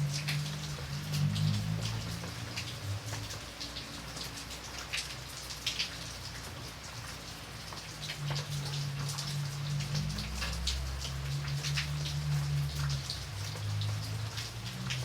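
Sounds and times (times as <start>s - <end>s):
rain drops striking a surface: 0.0s - 15.0s.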